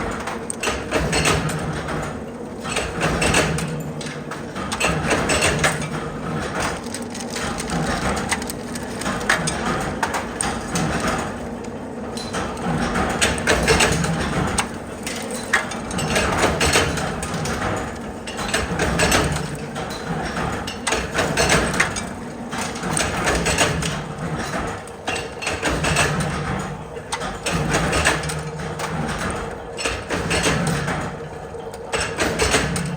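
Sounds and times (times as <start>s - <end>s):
metal clattering machinery: 0.0s - 32.9s
steady machine hum: 0.0s - 32.9s.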